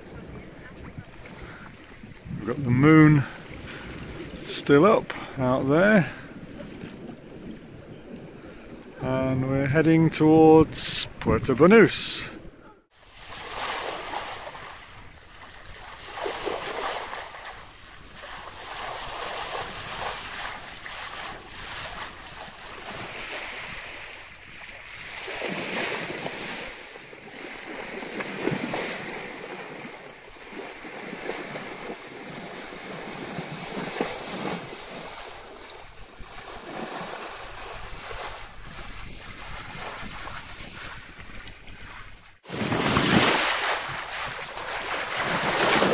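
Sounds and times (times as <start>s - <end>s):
wind on microphone: 0.0s - 9.6s, 10.6s - 45.9s
water splashing along hull: 0.0s - 45.9s.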